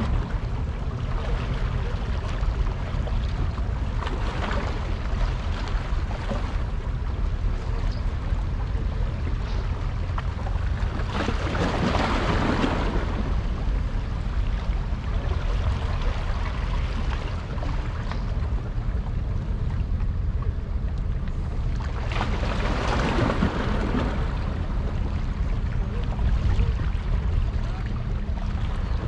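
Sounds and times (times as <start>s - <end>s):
low rumble: 0.0s - 29.0s
wind noise on microphone: 0.0s - 29.0s.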